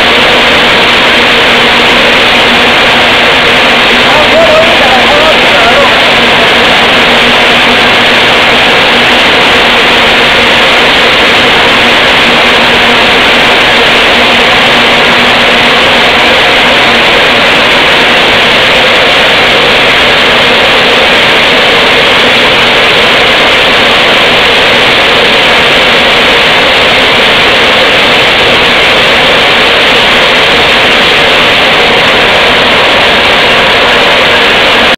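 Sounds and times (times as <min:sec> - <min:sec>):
flour mill machinery running: 0:00.0 - 0:34.9.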